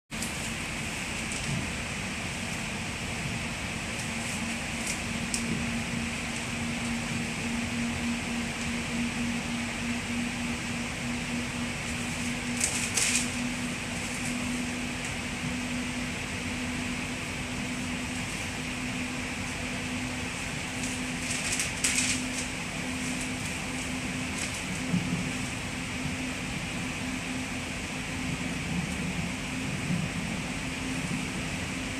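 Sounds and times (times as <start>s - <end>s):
train carriage running noise: 0.1s - 31.9s.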